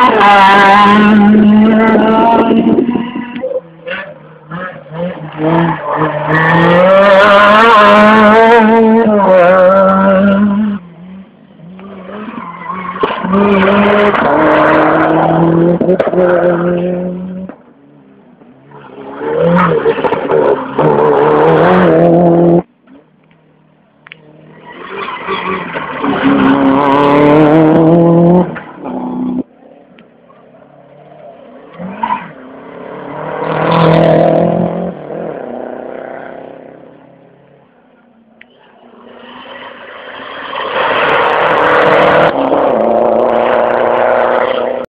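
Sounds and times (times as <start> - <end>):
rally cars racing past: 0.0 - 22.7, 24.1 - 44.9.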